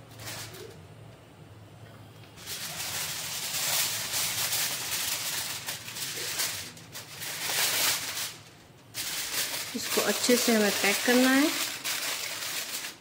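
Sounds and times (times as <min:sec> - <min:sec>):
aluminium foil crinkling: 0:00.0 - 0:00.8, 0:02.4 - 0:13.0.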